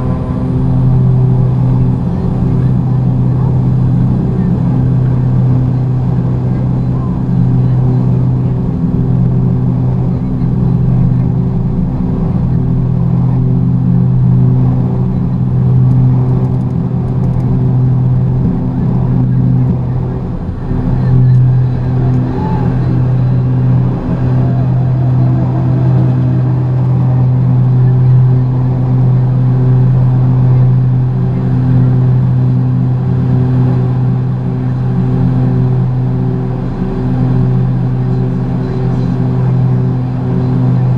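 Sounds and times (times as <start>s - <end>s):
turboprop propeller drone: 0.0s - 40.9s.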